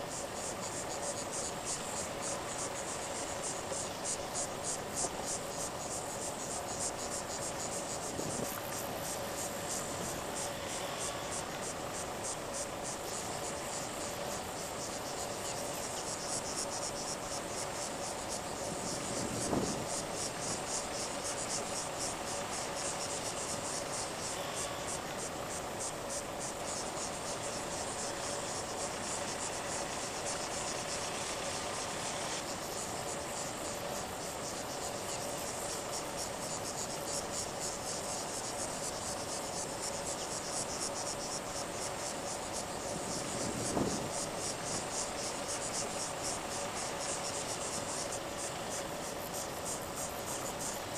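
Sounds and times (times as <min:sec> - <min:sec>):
faint steady hum: 0:00.0 - 0:50.9
insects chirring: 0:00.0 - 0:50.9.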